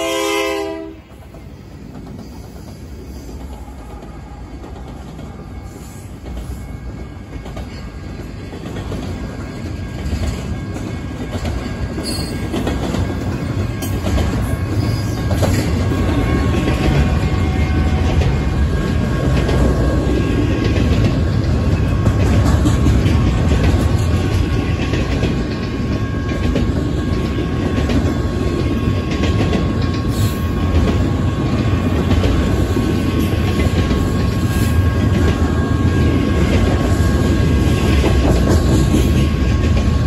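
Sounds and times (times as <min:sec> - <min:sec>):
freight train rumbling past: 0:00.0 - 0:40.0
steel wheels clattering on rail: 0:00.0 - 0:40.0.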